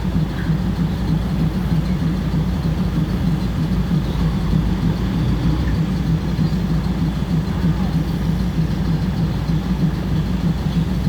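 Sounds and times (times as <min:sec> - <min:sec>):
diesel train engine idling: 0:00.0 - 0:11.0.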